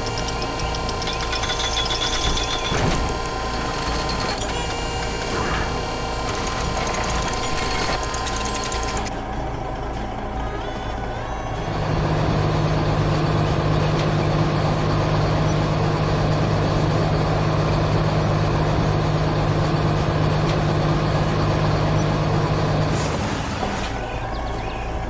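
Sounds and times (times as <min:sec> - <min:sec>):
heavy vehicle engine humming: 0:00.0 - 0:25.0.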